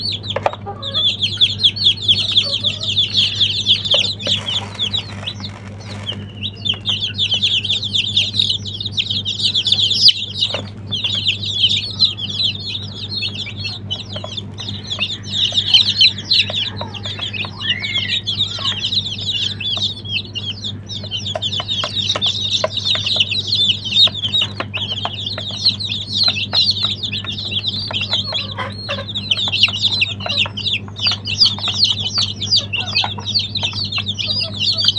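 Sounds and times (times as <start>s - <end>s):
baby chicks peeping: 0.0s - 34.9s
steady low hum: 0.0s - 34.9s.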